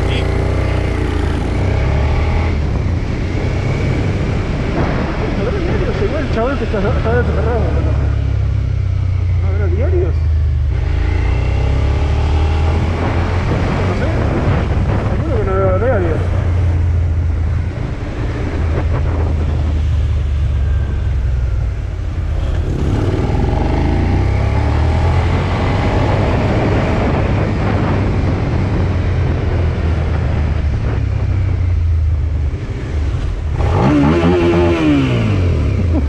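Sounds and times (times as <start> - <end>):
motorcycle engine running: 0.0 - 36.0
wind rumble on microphone: 0.0 - 36.0.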